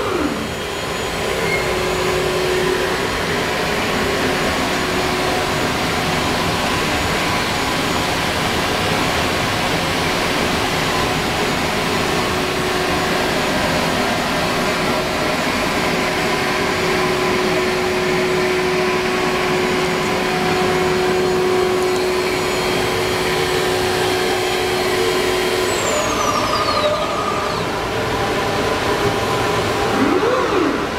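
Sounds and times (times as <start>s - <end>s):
high whine falling in pitch: 0.0s - 30.9s
machine rushing and whining: 0.0s - 30.9s.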